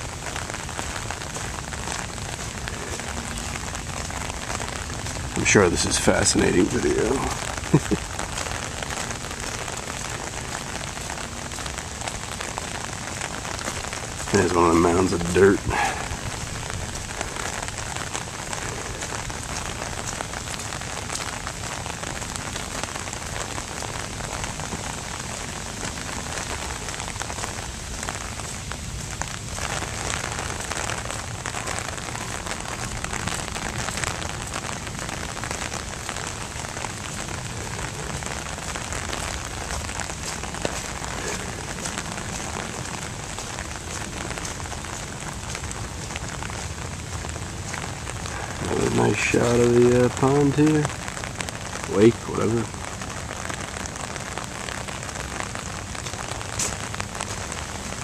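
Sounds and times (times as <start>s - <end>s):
raindrops ticking: 0.0s - 58.0s
steady rain hiss: 0.0s - 58.0s.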